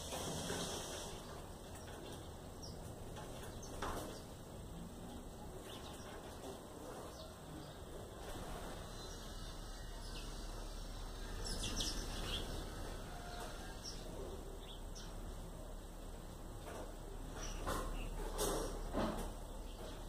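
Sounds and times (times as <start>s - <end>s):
birds chirping: 0.0s - 20.0s
outdoor background noise: 0.0s - 20.0s.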